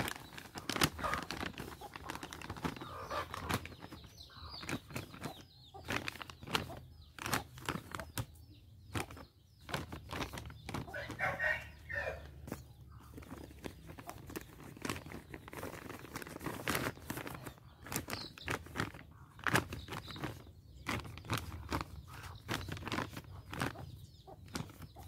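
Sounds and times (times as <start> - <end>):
plastic bag crinkling: 0.0 - 8.3, 8.9 - 11.4, 13.0 - 25.0.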